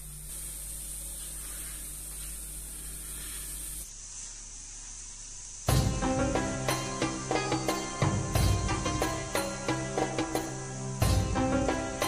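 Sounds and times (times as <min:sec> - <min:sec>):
steady soft hiss: 0:00.0 - 0:12.0.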